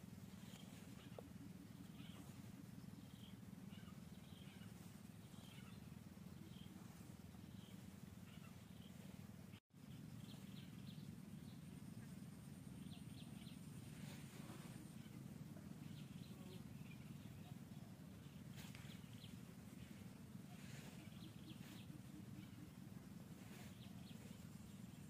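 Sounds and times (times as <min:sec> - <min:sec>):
faint high chirps: 0:00.0 - 0:25.0
low background hum: 0:00.0 - 0:25.0.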